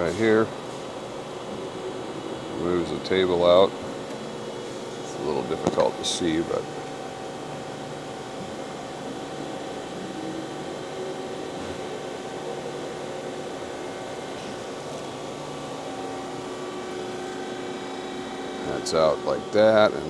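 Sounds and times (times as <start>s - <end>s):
grinder machine hum and whir: 0.0s - 20.0s.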